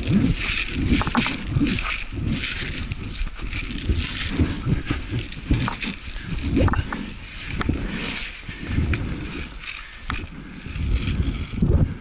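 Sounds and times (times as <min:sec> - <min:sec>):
clothing and gear rustling: 0:00.0 - 0:12.0.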